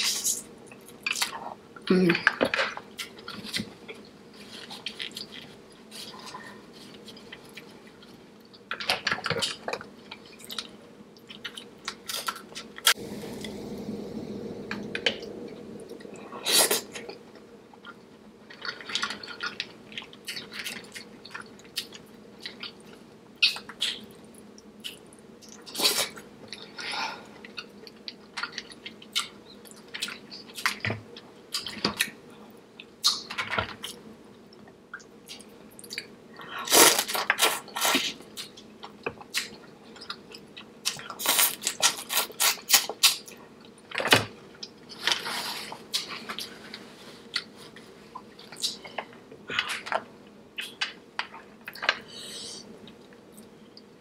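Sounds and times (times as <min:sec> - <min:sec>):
person chewing and smacking: 0:02.6 - 0:13.0, 0:15.9 - 0:26.8, 0:27.4 - 0:32.2, 0:32.8 - 0:34.0, 0:34.6 - 0:52.1.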